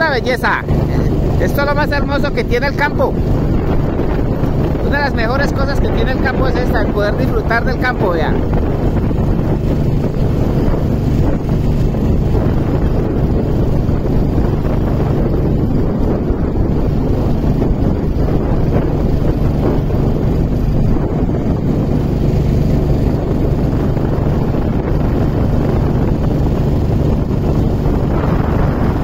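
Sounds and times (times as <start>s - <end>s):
motorcycle engine hum: 0.0s - 29.0s
wind buffeting microphone: 0.0s - 29.0s.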